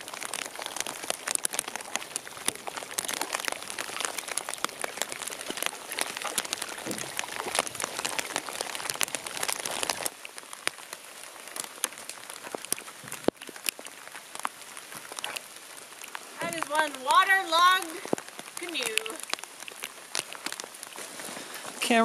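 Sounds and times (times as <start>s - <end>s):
rain drops ticking: 0.0s - 22.0s.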